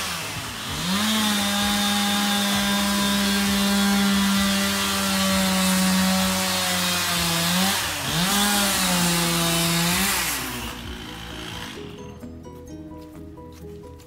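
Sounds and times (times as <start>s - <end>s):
chainsaw cutting wood: 0.0s - 12.2s.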